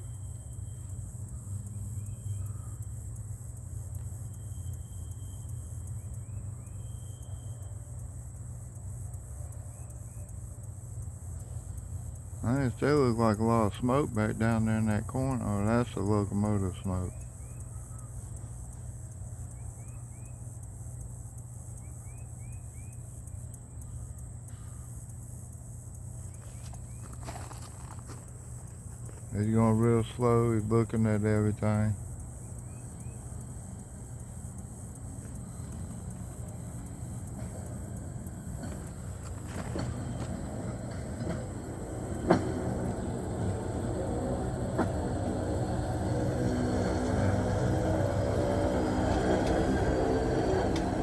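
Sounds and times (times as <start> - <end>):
steady high buzz: 0.0 - 51.0
vehicle engine humming: 0.0 - 51.0.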